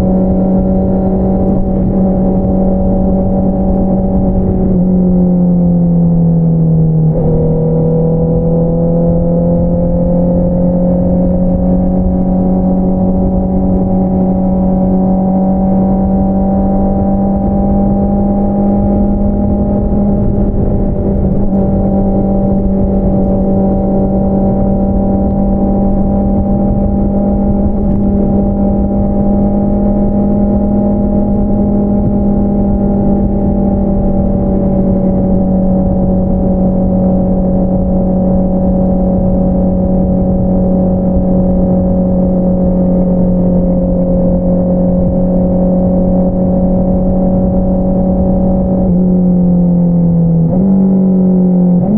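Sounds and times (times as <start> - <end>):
motorcycle engine cruising: 0.0 - 51.9.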